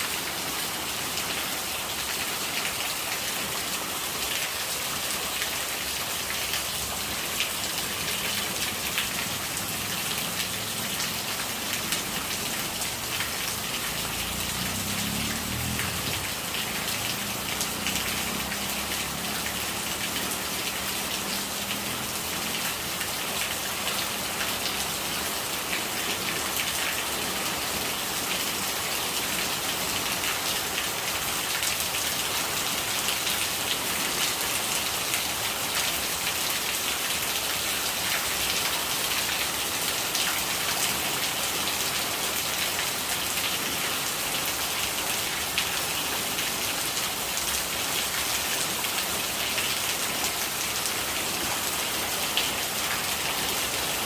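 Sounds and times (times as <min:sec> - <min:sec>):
rain falling: 0:00.0 - 0:54.0
rainwater gurgling: 0:00.0 - 0:54.0.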